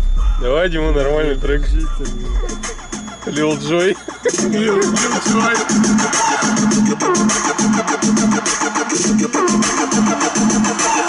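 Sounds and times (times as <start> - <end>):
loud electronic music: 0.0 - 11.0.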